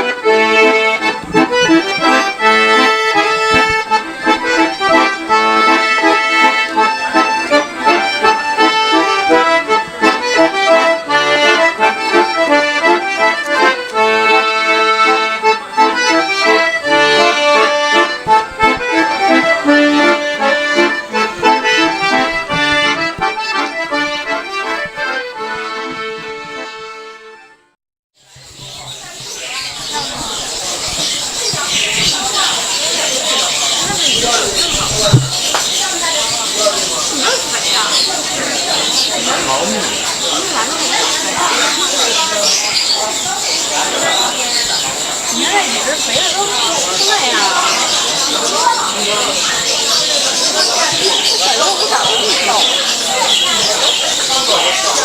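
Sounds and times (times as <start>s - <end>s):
accordion music: 0.0s - 55.0s.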